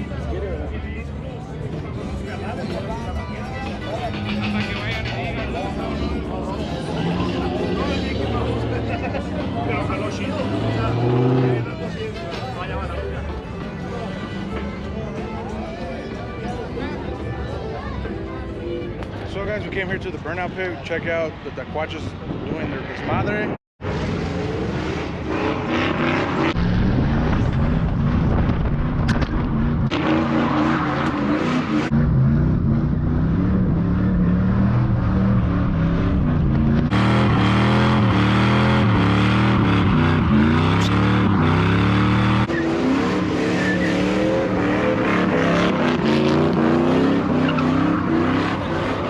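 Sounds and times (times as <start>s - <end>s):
truck engines revving hard: 0.0s - 18.2s, 21.8s - 49.0s.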